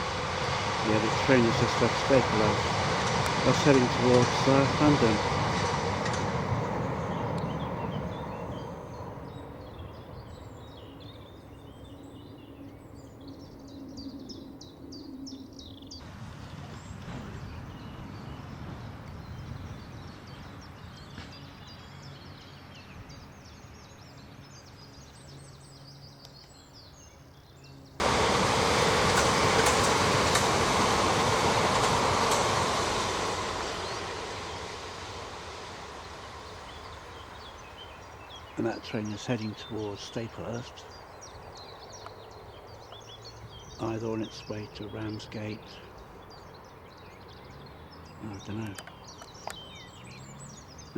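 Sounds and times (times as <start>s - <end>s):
passenger train running past: 0.0s - 15.1s, 15.8s - 25.7s, 28.0s - 50.9s
small birds chirping: 0.0s - 28.0s, 31.2s - 50.9s.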